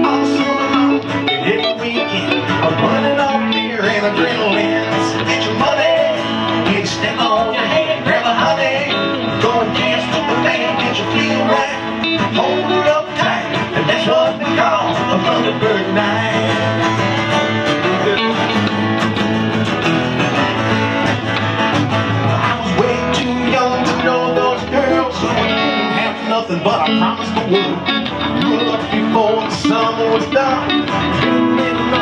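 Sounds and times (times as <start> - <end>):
electric guitar playing: 0.0 - 32.0
strummed acoustic guitar: 0.0 - 32.0.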